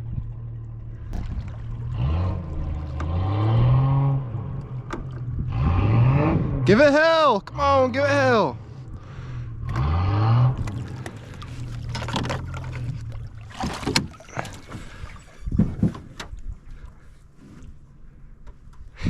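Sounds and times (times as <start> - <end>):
small boat motor humming: 0.0 - 19.0.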